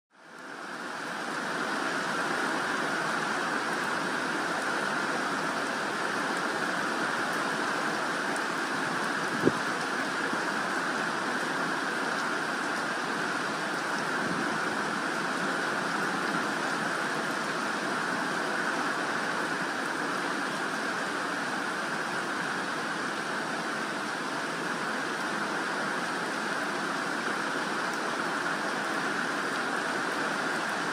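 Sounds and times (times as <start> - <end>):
steady rain: 0.1 - 30.9.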